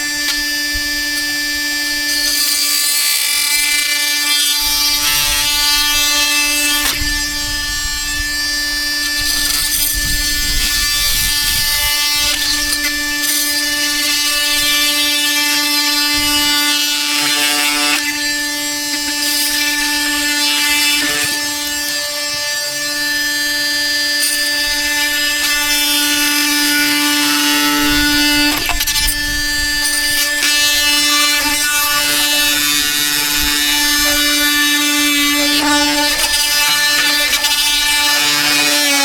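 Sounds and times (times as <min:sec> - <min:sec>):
small water pump whining: 0:00.0 - 0:39.0.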